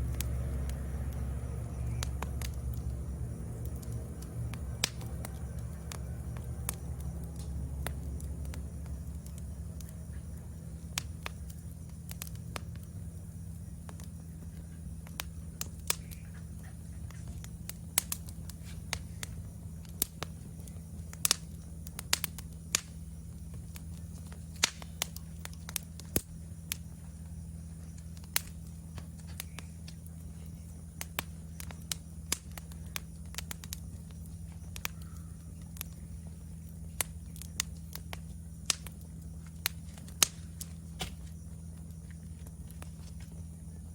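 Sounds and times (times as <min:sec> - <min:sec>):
insect trill: 0:00.0 - 0:43.9
low hum: 0:00.0 - 0:43.9
wood fire crackling and popping: 0:00.0 - 0:43.9.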